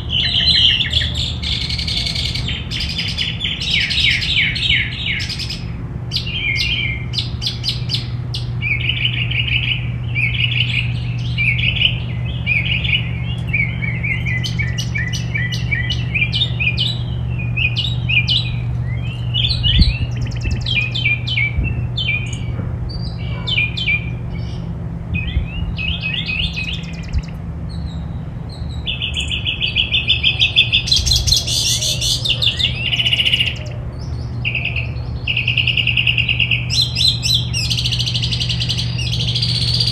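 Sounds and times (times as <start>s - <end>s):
songbirds chirping and singing: 0.0s - 39.9s
steady low hum: 0.0s - 39.9s.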